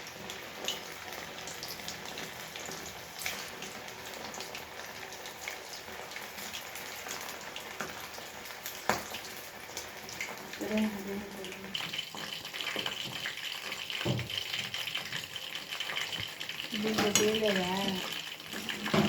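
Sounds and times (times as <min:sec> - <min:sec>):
chicken deep-frying in oil: 0:00.0 - 0:19.0.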